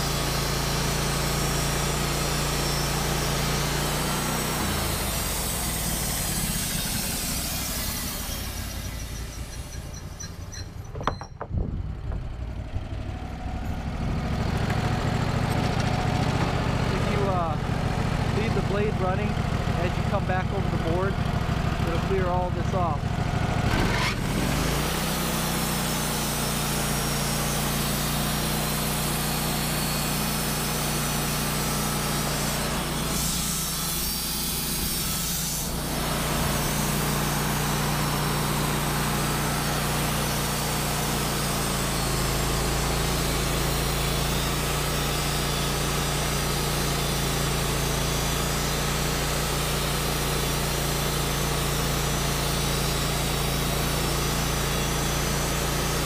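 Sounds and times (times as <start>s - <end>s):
band blade sawing log: 0.0s - 11.4s, 14.3s - 21.2s, 21.8s - 56.0s
sawmill engine running: 0.0s - 56.0s.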